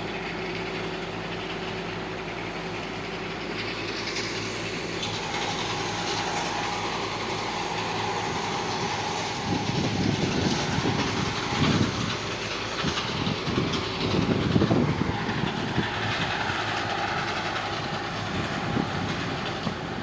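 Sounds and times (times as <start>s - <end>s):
train running on rails: 0.0s - 20.0s
wheels clattering over track: 0.0s - 20.0s.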